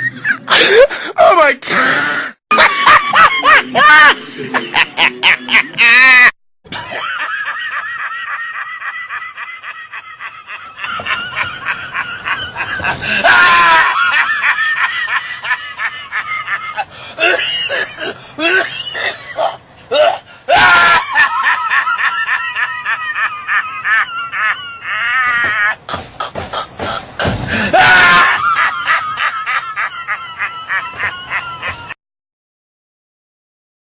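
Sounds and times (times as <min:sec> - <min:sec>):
man laughing hard: 0:00.0 - 0:32.0.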